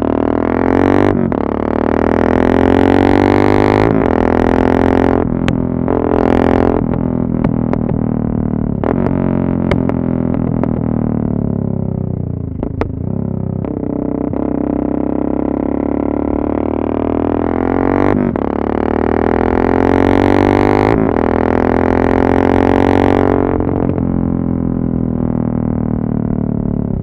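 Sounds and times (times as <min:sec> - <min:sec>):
motorcycle engine revving loud: 0:00.0 - 0:10.8, 0:12.6 - 0:25.3.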